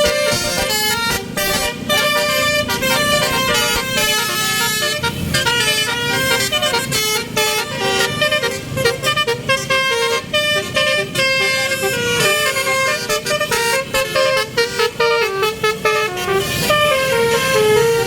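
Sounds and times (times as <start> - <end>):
bus multi-tone horn playing tune: 0.0 - 18.0
road noise rumble: 0.0 - 18.0.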